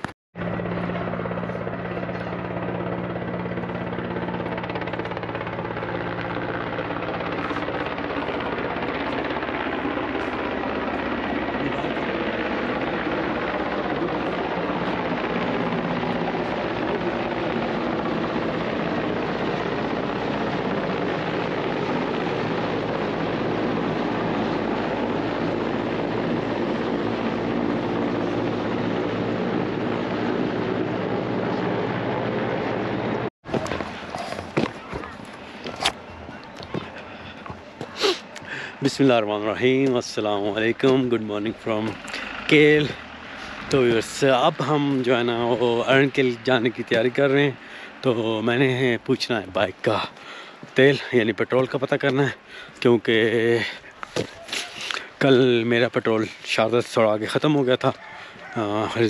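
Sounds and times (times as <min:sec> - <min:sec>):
helicopter flying overhead: 0:00.0 - 0:59.0.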